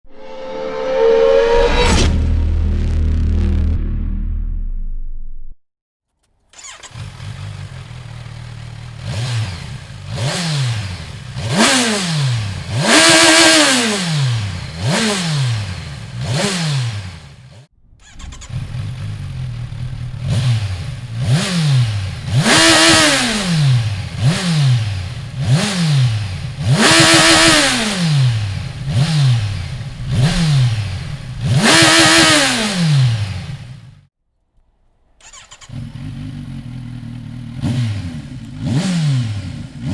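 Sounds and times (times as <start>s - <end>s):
motorcycle engine revving: 6.5s - 34.1s, 35.2s - 39.9s.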